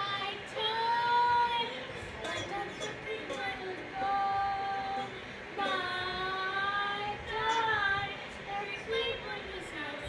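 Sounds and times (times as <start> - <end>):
girl singing long notes: 0.0 - 10.0.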